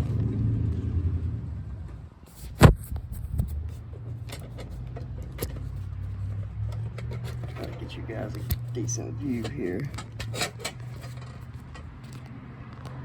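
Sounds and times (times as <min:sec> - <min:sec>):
low steady rumble: 0:00.0 - 0:12.2.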